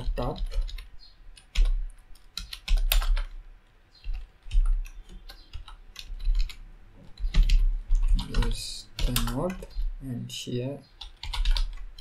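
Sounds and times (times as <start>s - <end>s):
computer keyboard keys clicking: 0.0s - 3.4s, 4.0s - 9.9s, 11.0s - 12.0s.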